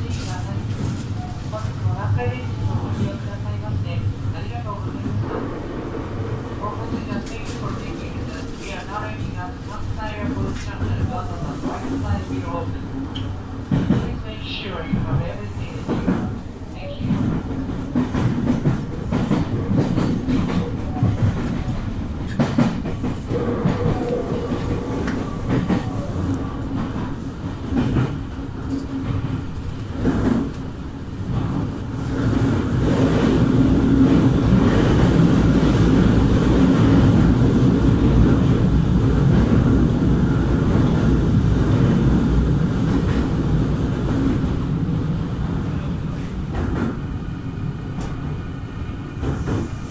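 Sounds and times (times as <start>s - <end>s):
train running rumble: 0.0s - 49.9s.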